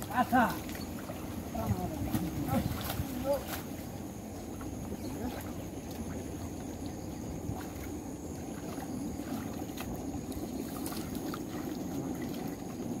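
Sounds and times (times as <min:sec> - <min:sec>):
small splashes and drips: 0:00.0 - 0:13.0
water sloshing and lapping: 0:00.0 - 0:13.0.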